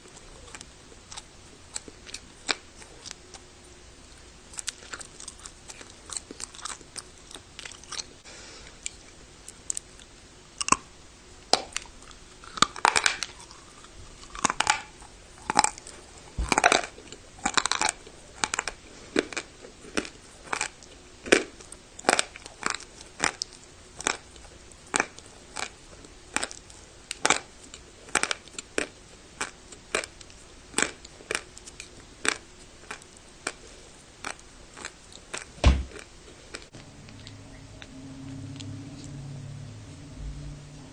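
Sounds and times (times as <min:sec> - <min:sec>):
grinding and crackling while chewing: 0:00.0 - 0:40.1.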